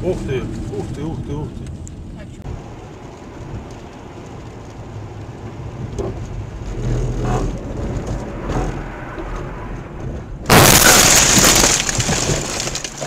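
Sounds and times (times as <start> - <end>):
car driving on wet road: 0.0 - 13.0.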